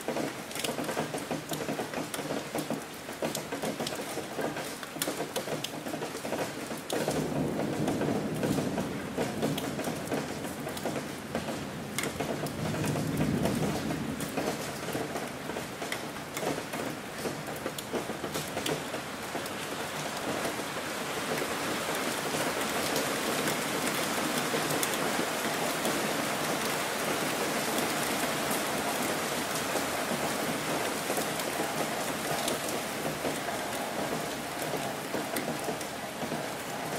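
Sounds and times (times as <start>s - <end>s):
raindrop ticks: 0.0s - 36.9s
steady rain falling: 0.0s - 36.9s.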